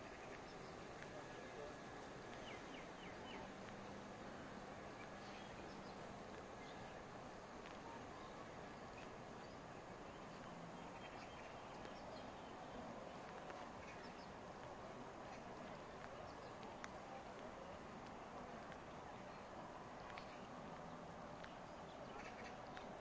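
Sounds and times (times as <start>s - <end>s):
small birds chirping: 0.0s - 23.0s
steady quiet hiss: 0.0s - 23.0s.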